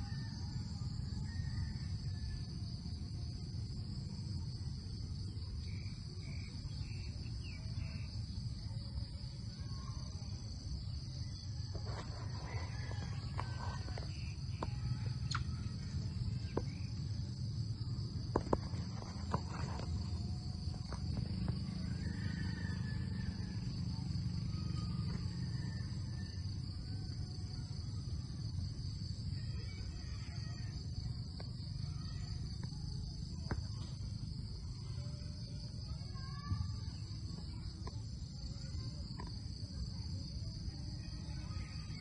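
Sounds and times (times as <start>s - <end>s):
high-pitched insect drone: 0.0s - 42.0s.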